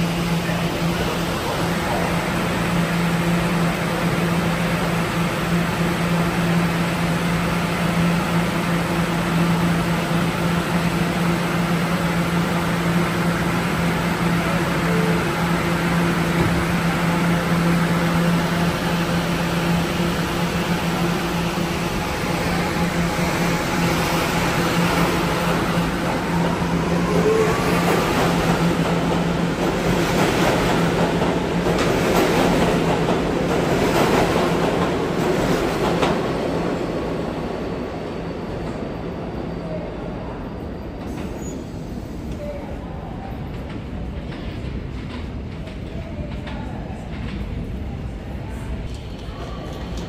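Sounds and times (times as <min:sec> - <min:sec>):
train equipment humming: 0:00.0 - 0:42.5
train departing whine: 0:00.0 - 0:43.5.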